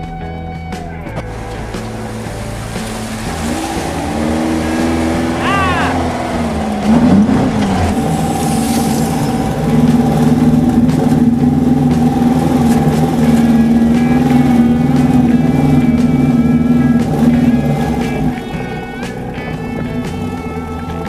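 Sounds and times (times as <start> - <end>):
air-cooled engine revving under load: 1.2 - 21.0.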